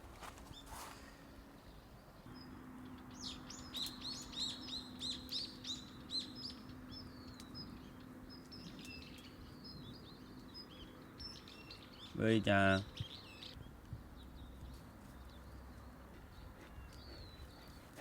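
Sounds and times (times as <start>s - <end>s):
bird chirping: 1.6s - 18.0s.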